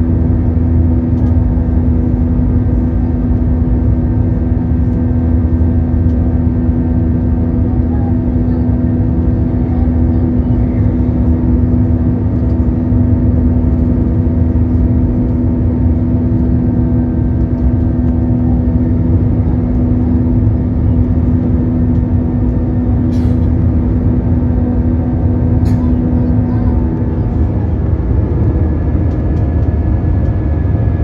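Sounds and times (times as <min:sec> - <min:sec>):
jet engine drone in cabin: 0:00.0 - 0:31.0.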